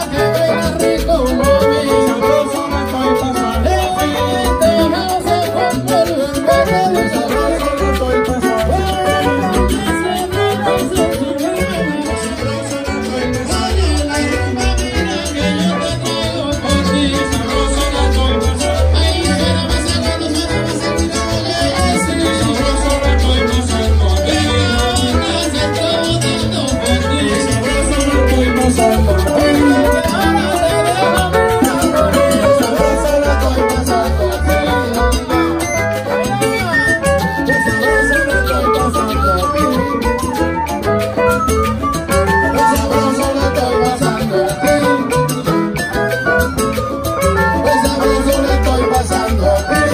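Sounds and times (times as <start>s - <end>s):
bass notes: 0.0s - 49.9s
percussion: 0.0s - 49.9s
salsa band playing: 0.0s - 49.9s.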